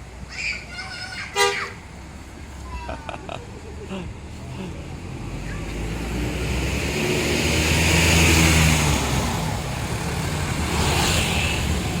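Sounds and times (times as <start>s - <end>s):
bus diesel engine accelerating: 0.0s - 12.0s.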